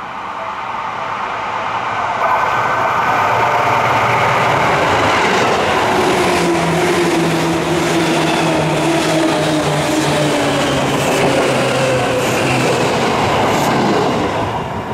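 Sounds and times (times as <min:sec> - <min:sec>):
electric train passing: 0:00.0 - 0:14.9
low train hum: 0:00.0 - 0:14.9
wheels rushing on rail: 0:00.0 - 0:14.9.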